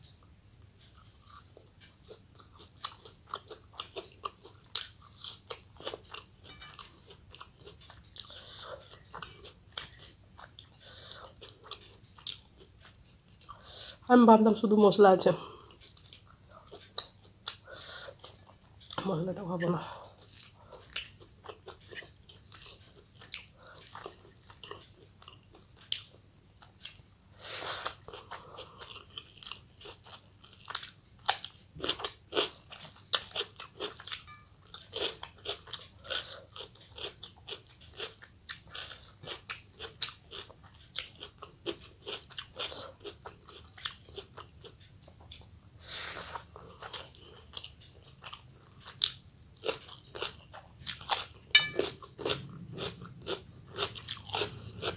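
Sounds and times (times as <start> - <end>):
person chewing and crunching food: 0.1 - 14.1, 15.5 - 19.1, 19.8 - 54.9.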